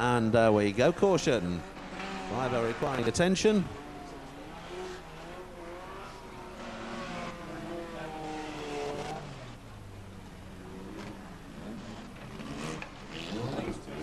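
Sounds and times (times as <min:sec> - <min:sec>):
car engines running: 0:00.0 - 0:14.0.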